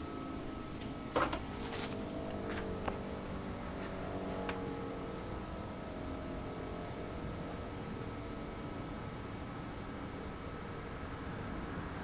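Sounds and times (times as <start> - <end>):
faint steady high tone: 0.0 - 12.0.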